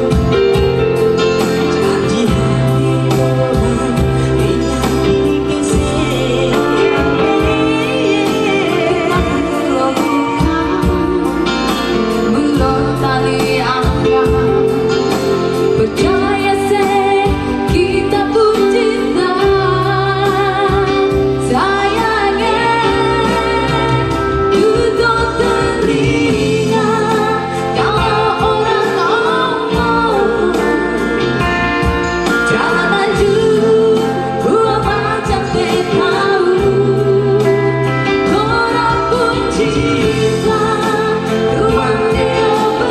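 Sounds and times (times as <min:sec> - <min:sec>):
electronic keyboard accompaniment: 0:00.0 - 0:42.9
woman singing: 0:00.0 - 0:42.9.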